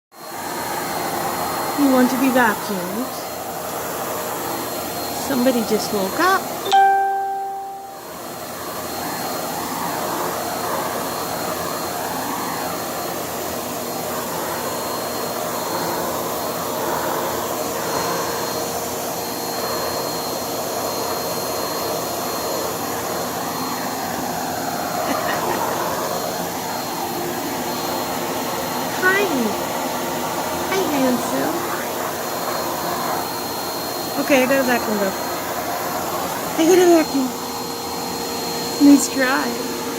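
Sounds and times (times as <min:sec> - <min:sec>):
vacuum cleaner running: 0:00.2 - 0:39.9.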